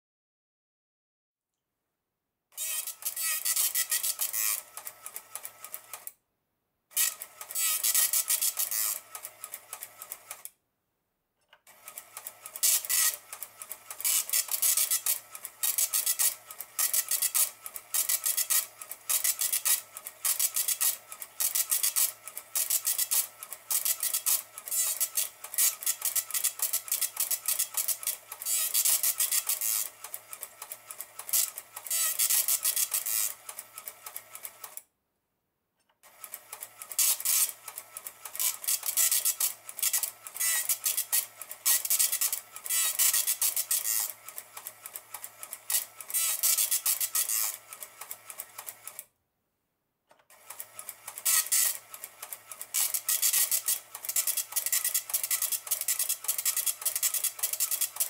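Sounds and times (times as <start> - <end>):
dot matrix printer printing: 2.6 - 6.2, 6.9 - 10.5, 11.7 - 34.8, 36.0 - 49.1, 50.2 - 58.0.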